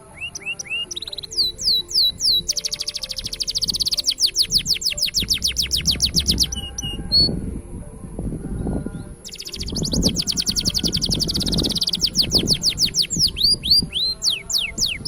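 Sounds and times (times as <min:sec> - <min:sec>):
canary singing trill: 0:00.0 - 0:15.0.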